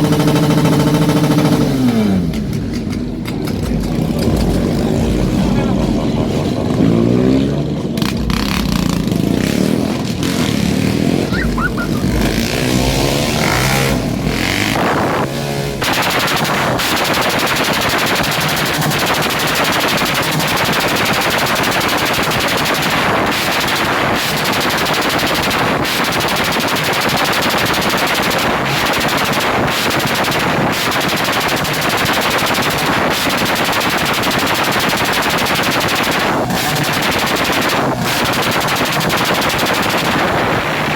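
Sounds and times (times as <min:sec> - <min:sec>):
motorcycle engine on rev limiter: 0:00.0 - 0:40.9.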